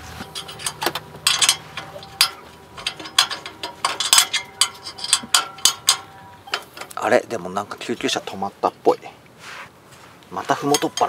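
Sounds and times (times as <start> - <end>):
metal panels clicking and clinking: 0.0 - 8.8, 10.4 - 11.0.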